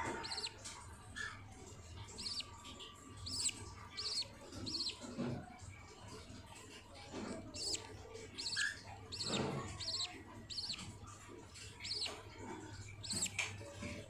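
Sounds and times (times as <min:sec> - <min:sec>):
budgerigars chirping: 0:00.0 - 0:05.8, 0:06.9 - 0:14.0.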